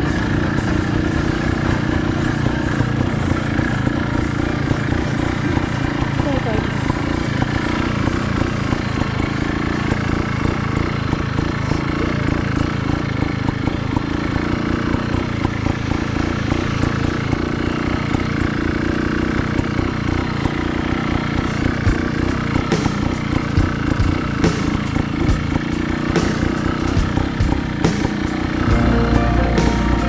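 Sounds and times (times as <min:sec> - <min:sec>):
two-stroke motorcycle engine running: 0:00.0 - 0:30.0.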